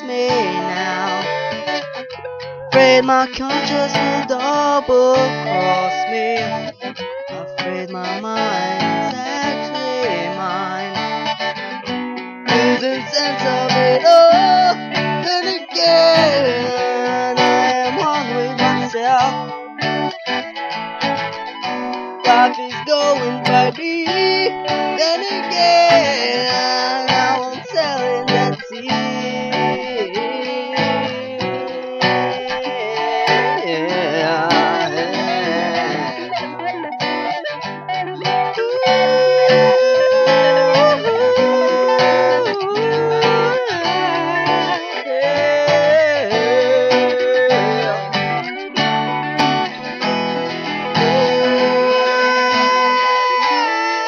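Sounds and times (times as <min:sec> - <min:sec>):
sliding guitar melody: 0:00.0 - 0:54.0
strummed and picked guitar: 0:00.0 - 0:54.0.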